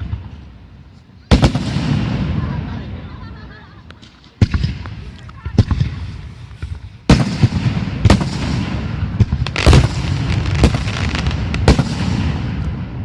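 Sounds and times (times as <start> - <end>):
fireworks bangs: 0.0 - 13.0
fireworks cracks: 0.0 - 13.0.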